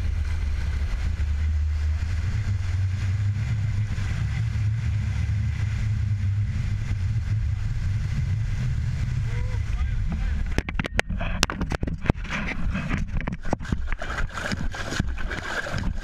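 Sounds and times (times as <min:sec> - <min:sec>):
water rushing along a hull: 0:00.0 - 0:16.0
wind rumble on microphone: 0:00.0 - 0:16.0.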